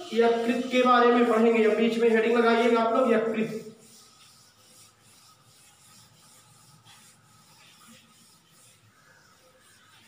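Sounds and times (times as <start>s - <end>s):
eraser rubbing on blackboard: 0.0s - 10.0s.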